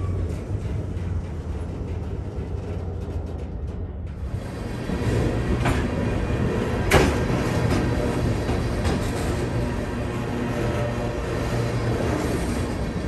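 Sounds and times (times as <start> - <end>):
freight train cars rumbling: 0.0 - 13.0
train cars clanking: 0.0 - 13.0.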